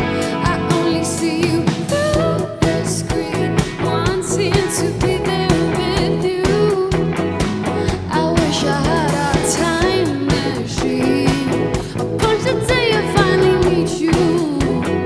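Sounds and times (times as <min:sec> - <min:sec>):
drum kit beat: 0:00.0 - 0:15.0
live pop band playing: 0:00.0 - 0:15.0.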